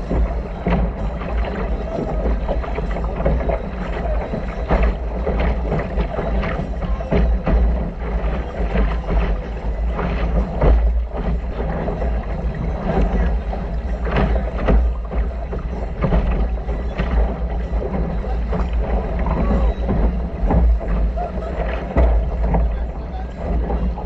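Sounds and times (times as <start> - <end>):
water slapping against hull: 0.0 - 24.0
wind rumbling on microphone: 0.0 - 24.0.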